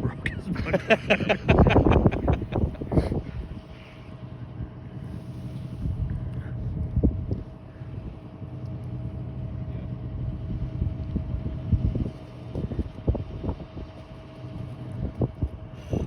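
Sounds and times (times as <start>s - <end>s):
heavy machine engine running: 0.1s - 16.0s.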